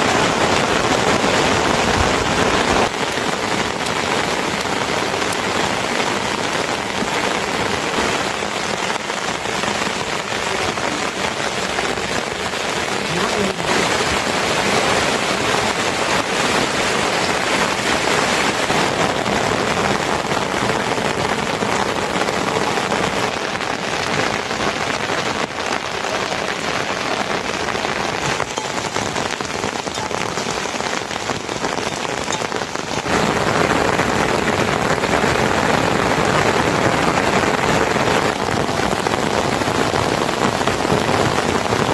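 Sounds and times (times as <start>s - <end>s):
rain patter: 0.0s - 41.9s.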